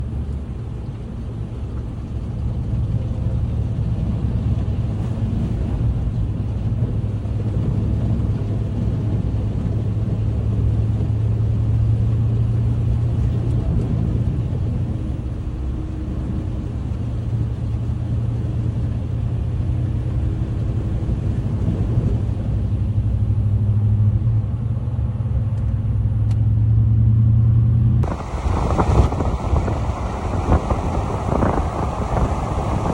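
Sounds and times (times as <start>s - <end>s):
car engine and road drone: 0.0s - 32.9s.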